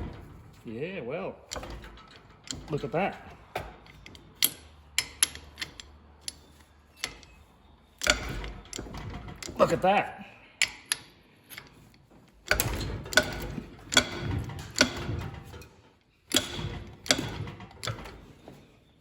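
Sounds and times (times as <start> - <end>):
metal clicks of hand tools: 1.5 - 7.4, 8.0 - 9.9, 10.6 - 18.4.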